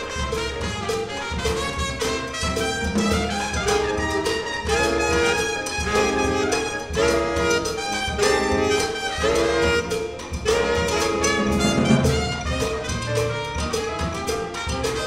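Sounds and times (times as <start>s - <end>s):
drum kit and cymbals: 0.0s - 15.0s
saxophones and brass chords: 0.0s - 15.0s
trumpet playing: 0.0s - 15.0s.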